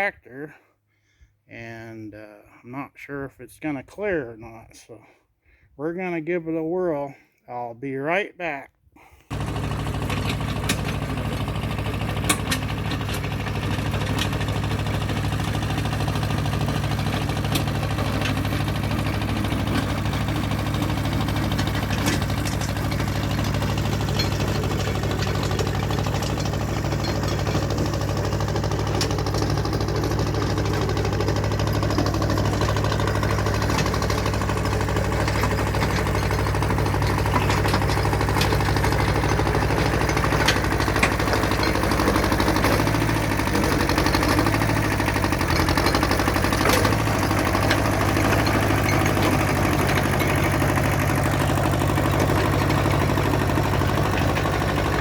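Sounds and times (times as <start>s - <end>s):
engine idling: 9.3s - 55.0s.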